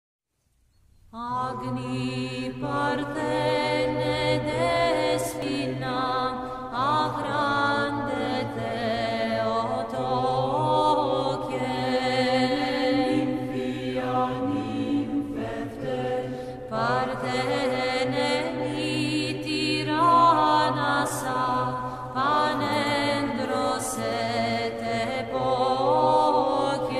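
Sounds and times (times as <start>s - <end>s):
voices chanting slowly: 1.2s - 26.9s.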